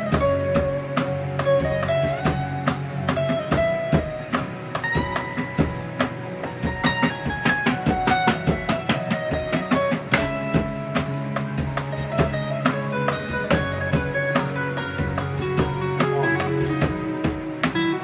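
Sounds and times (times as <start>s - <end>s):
guitar backing music: 0.0s - 18.0s
taps on drum pads: 0.0s - 18.0s.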